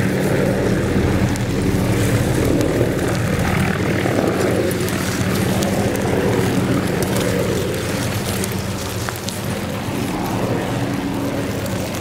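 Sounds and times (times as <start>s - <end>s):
aircraft engine drone: 0.0s - 12.0s
faint crackling ticks: 0.0s - 12.0s.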